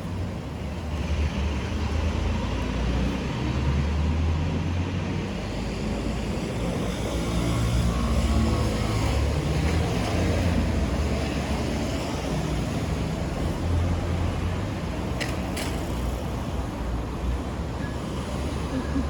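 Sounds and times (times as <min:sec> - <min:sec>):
cars passing by: 0:00.0 - 0:19.0.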